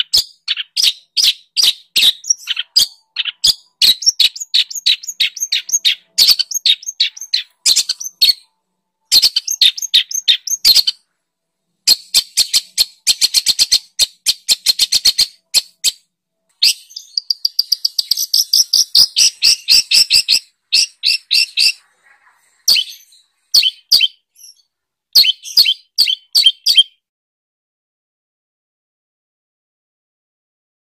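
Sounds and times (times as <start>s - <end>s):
songbird chirps and trills: 0.0s - 27.0s.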